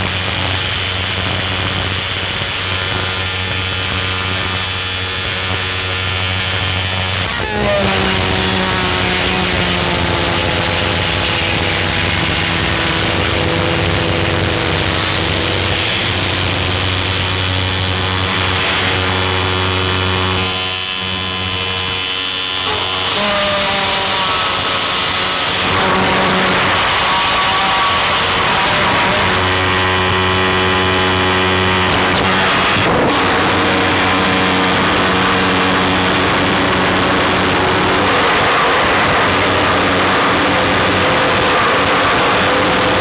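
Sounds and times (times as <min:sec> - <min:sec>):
distorted electronic noise: 0:00.0 - 0:43.0
droning tones sagging in pitch: 0:00.0 - 0:43.0.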